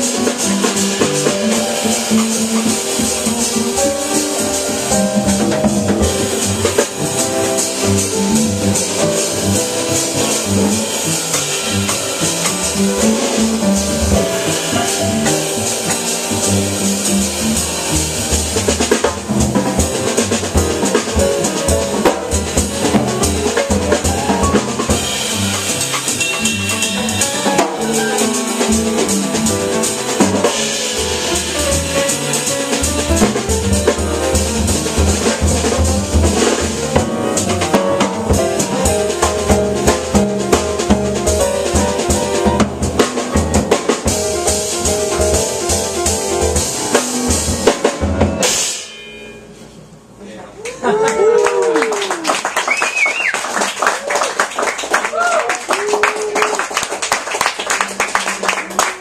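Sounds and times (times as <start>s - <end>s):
upright bass: 0.0s - 48.4s
drums and ride cymbal: 0.0s - 50.1s
piano: 0.0s - 59.0s.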